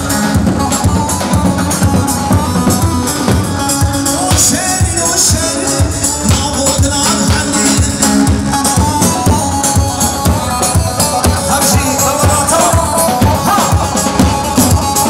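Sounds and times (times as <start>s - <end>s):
driving drum beat: 0.0s - 15.0s
keyboard melody: 0.0s - 15.0s.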